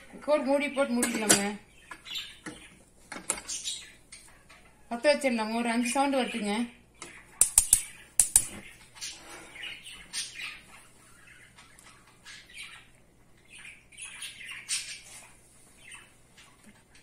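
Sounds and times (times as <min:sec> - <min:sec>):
bird chirping and squawking: 0:00.7 - 0:05.0, 0:06.2 - 0:17.0.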